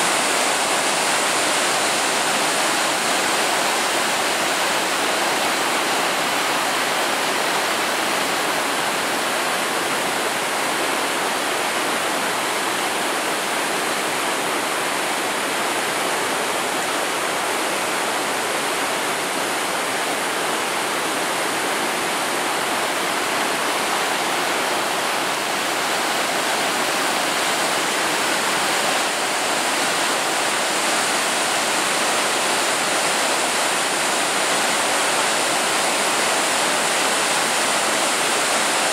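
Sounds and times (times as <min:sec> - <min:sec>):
river rushing over weir: 0:00.0 - 0:38.9.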